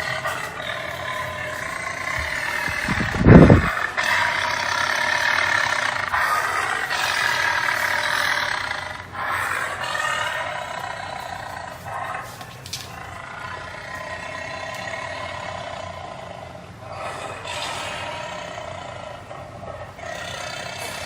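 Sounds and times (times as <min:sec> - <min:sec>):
tiger roaring and growling: 0:00.0 - 0:21.0.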